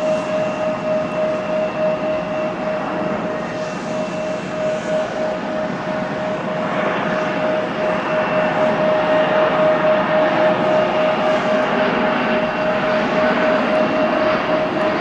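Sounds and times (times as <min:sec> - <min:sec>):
jet airliner landing: 0:00.0 - 0:15.0.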